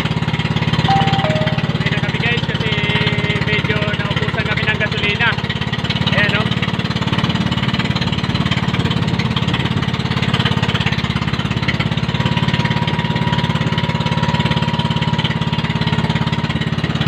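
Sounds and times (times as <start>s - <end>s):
boat engine running: 1.8s - 17.0s.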